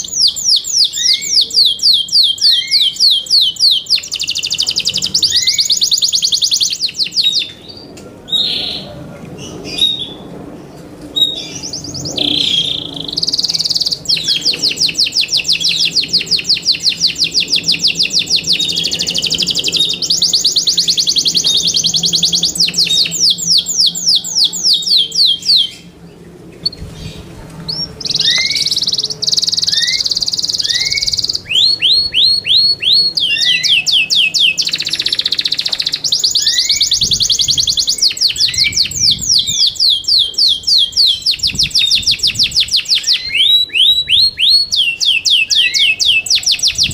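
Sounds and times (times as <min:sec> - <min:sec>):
canary singing trills: 0:00.0 - 0:10.3, 0:11.2 - 0:46.9.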